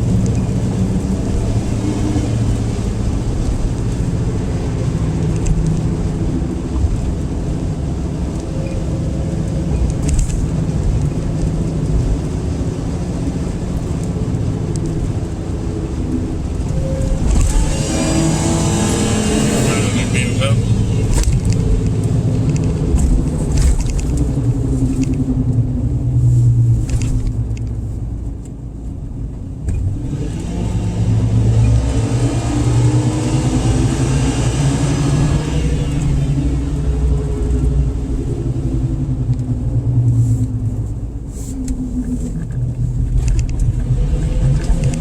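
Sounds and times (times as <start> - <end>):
car engine accelerating: 0.0 - 45.0
low road rumble: 0.0 - 45.0.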